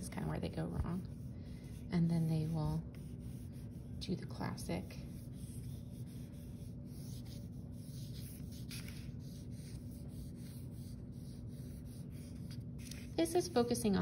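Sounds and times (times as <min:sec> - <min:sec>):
faint low hum: 0:00.0 - 0:14.0
drawing stick scratching paper: 0:00.9 - 0:13.8.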